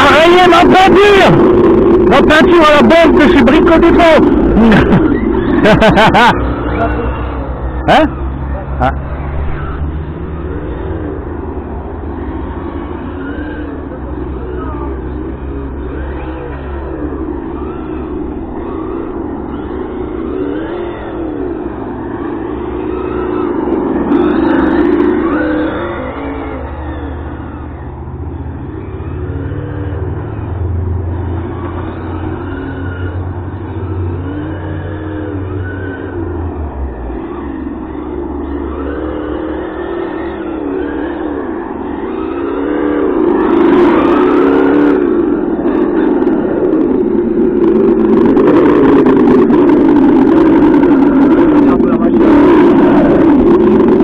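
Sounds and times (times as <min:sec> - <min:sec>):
simulated engine note revving: 0:00.0 - 0:54.0
steady low hum: 0:00.0 - 0:54.0.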